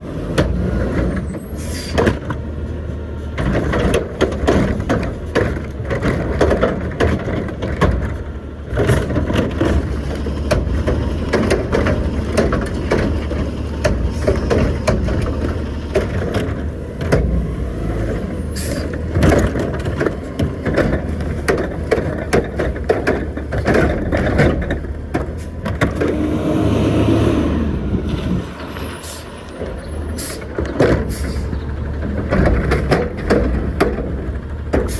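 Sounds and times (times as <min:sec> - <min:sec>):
diesel engines running: 0:00.0 - 0:34.9
metal clanks and bangs: 0:00.3 - 0:26.8, 0:27.4 - 0:34.9.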